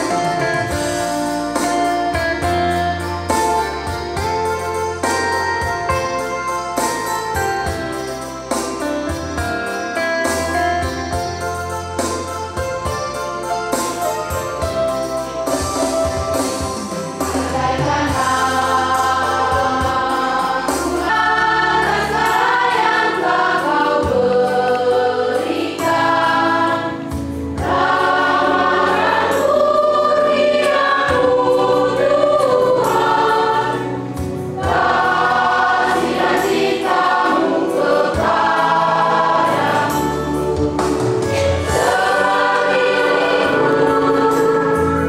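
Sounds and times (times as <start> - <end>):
choir singing a hymn: 0.0 - 10.9, 13.7 - 45.0.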